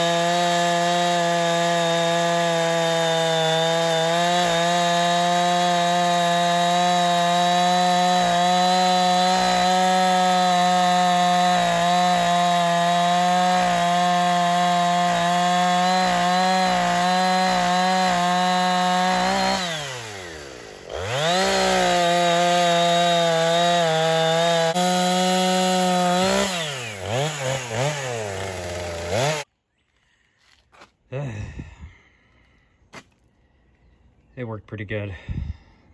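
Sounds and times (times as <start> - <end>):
chainsaw cutting log: 0.0 - 29.5.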